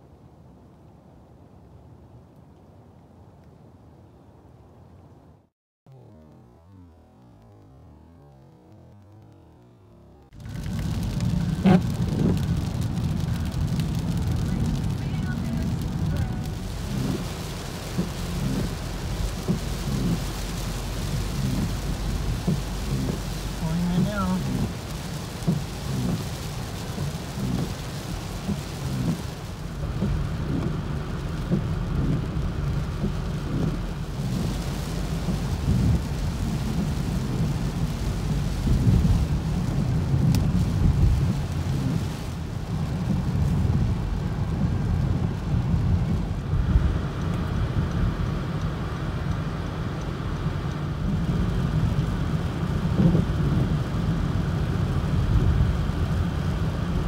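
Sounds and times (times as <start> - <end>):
low rumble: 5.9 - 57.0
rain falling: 6.0 - 57.0.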